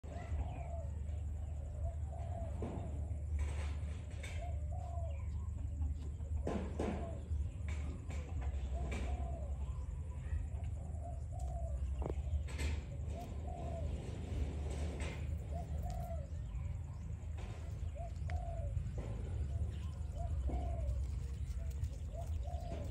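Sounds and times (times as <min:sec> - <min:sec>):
steady low hum: 0:00.0 - 0:22.9
birds cooing: 0:00.1 - 0:22.9.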